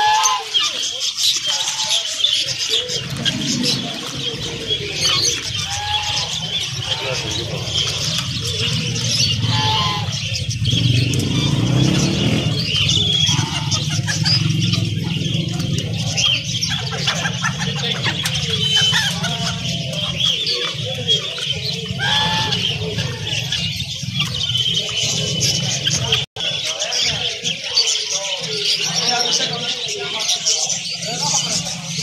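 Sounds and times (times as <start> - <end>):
caged birds chirping: 0.0 - 32.0.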